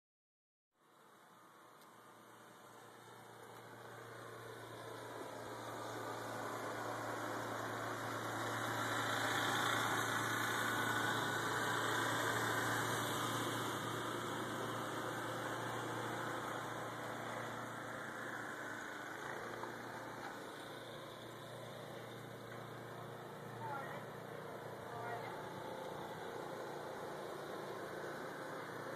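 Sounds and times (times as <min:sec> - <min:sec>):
vehicle passing by: 0:02.0 - 0:28.9.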